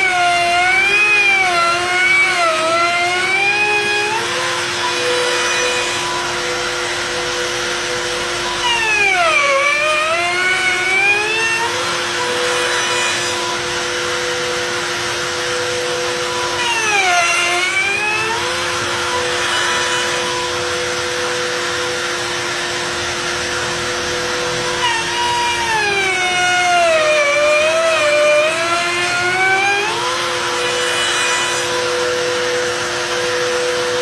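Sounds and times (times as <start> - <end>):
wood router whining: 0.0 - 34.0.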